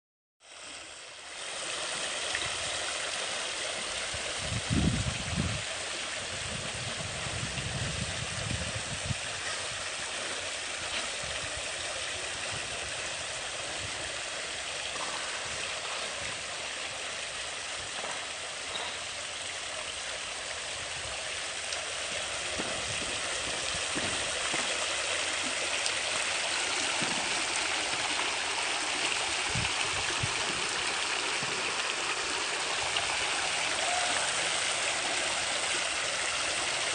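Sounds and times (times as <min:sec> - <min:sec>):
running water rushing: 0:00.4 - 0:36.9.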